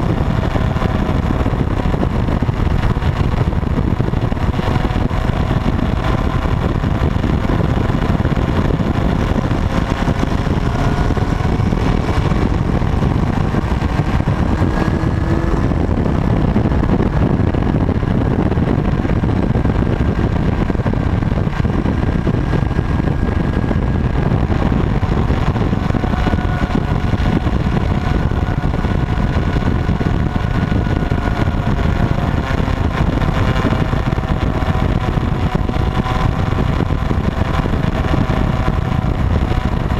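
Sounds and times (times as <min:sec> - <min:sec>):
motorcycle engine rumbling: 0:00.0 - 0:39.9
wind on microphone: 0:00.0 - 0:39.9.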